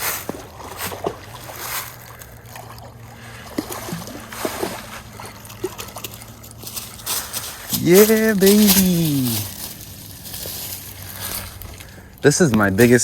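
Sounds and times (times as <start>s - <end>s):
light water splashes: 0.0s - 13.0s.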